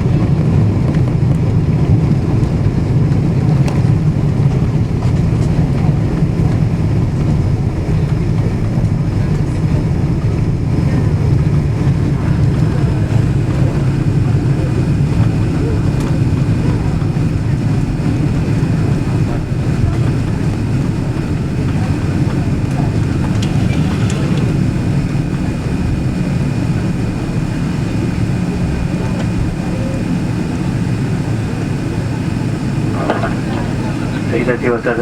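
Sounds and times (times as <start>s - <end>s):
jet engine cabin rumble: 0.0s - 35.0s.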